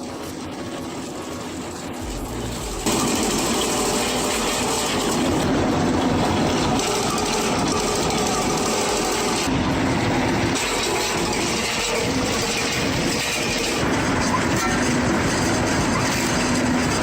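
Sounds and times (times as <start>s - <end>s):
wood-processing machine running: 0.0s - 17.0s.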